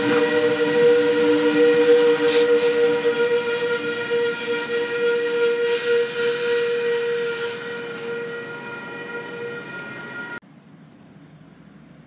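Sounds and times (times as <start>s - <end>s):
train whistling tone: 0.0s - 10.4s.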